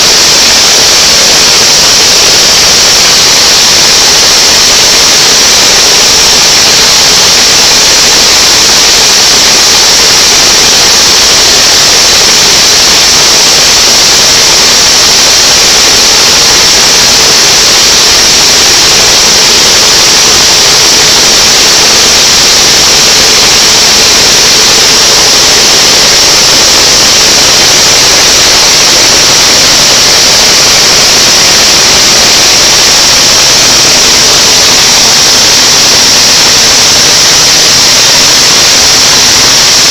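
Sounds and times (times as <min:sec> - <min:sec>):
blower rushing hiss: 0:00.0 - 0:39.9.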